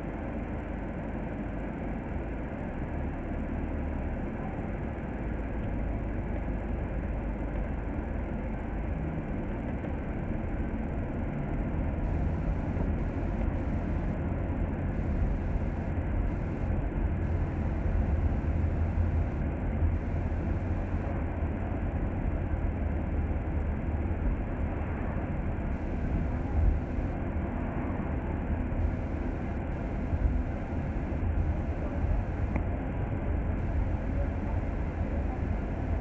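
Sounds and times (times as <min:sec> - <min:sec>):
bus engine and road rumble: 0:00.0 - 0:36.0.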